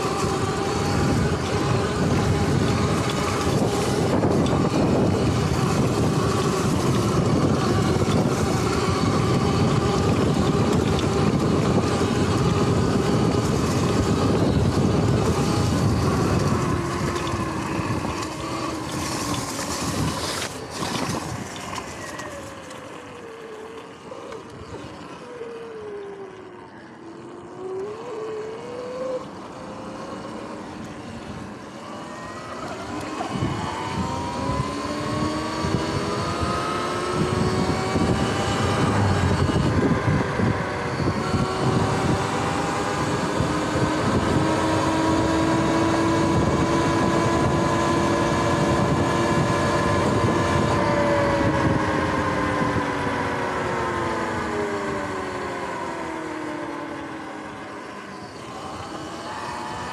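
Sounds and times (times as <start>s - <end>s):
electric motorbike whining: 0.0s - 59.9s
wind and tyre rushing: 0.0s - 59.9s.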